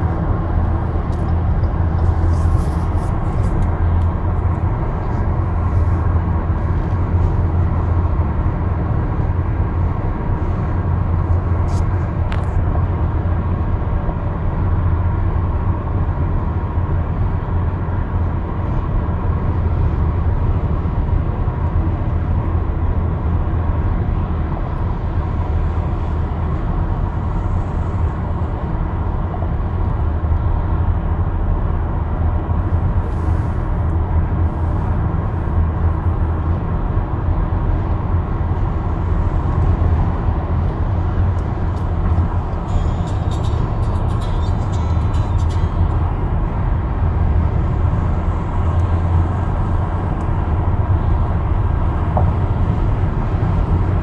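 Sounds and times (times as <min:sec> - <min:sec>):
road and engine noise in car: 0:00.0 - 0:54.0.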